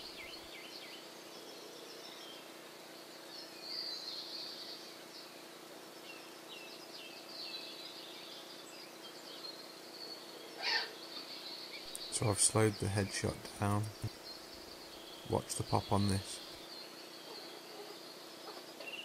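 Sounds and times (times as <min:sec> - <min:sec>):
outdoor background hum: 0:00.0 - 0:19.0
small birds chirping: 0:00.0 - 0:19.0.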